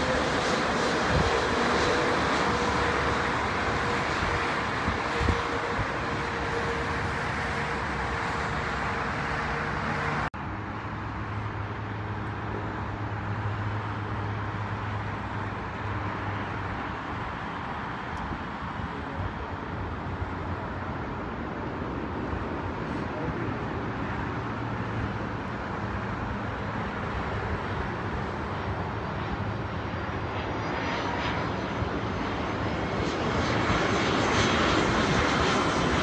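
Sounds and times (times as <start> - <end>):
jet engines whining: 0.0 - 36.0
road traffic: 0.0 - 36.0.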